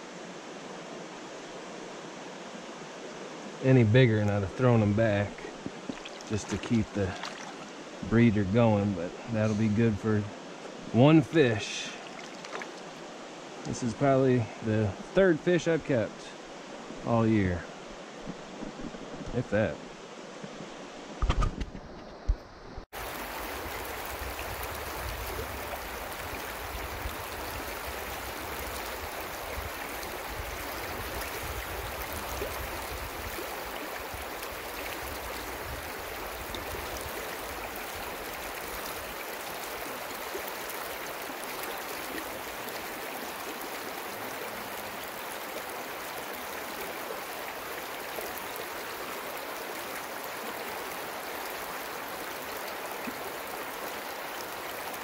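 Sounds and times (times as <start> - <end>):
creek water running over rocks: 0.0 - 55.0.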